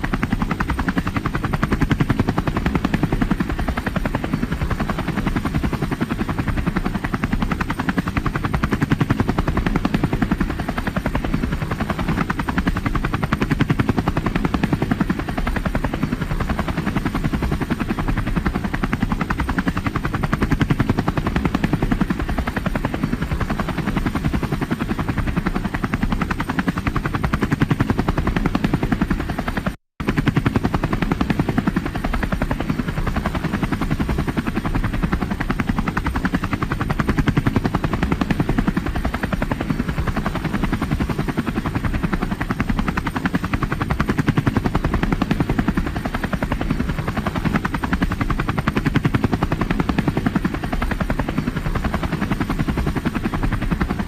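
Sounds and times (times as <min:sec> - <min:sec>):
helicopter rotor blades chopping: 0:00.0 - 0:54.0.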